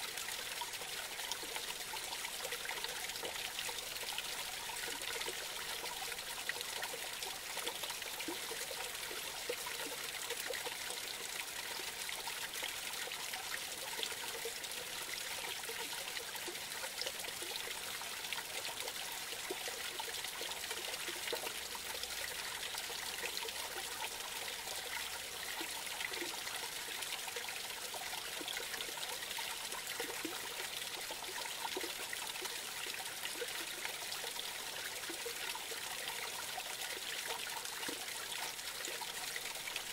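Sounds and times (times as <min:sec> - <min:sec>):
creek water trickling and splashing: 0:00.0 - 0:39.9
water gurgles: 0:00.0 - 0:39.9.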